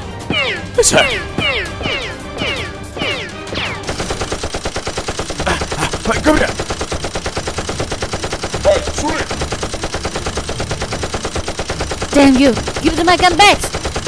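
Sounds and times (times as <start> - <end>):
rapid automatic gunfire effect: 1.0 - 14.0.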